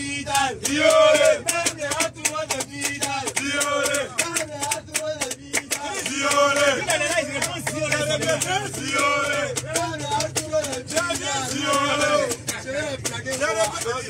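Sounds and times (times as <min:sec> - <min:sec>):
men singing a chant: 0:00.0 - 0:14.0
hand clapping beat: 0:00.3 - 0:14.0.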